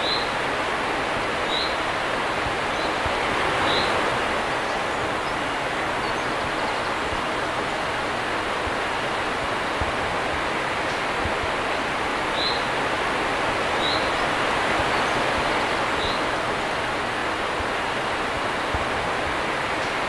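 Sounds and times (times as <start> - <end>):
river water rushing over weir: 0.0 - 20.0.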